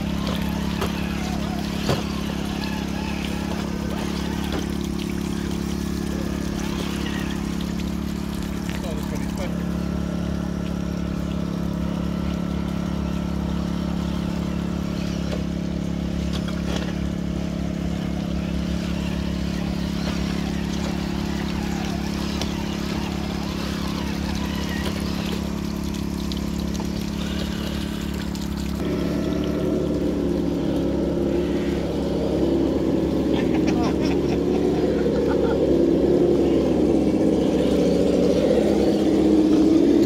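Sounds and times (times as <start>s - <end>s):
petrol generator drone: 0.0s - 40.0s
water splashing into a pool: 0.0s - 40.0s.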